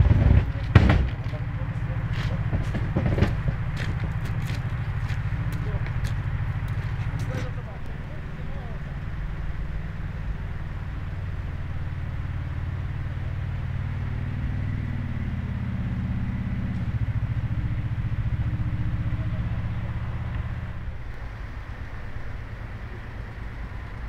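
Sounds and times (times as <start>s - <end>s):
wheel loader diesel engine: 0.0s - 24.0s.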